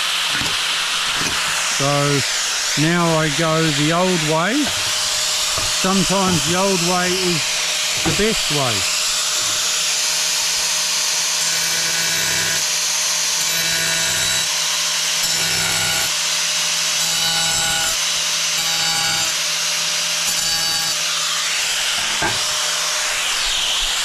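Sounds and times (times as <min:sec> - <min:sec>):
angle grinder cutting tile: 0:00.0 - 0:24.0.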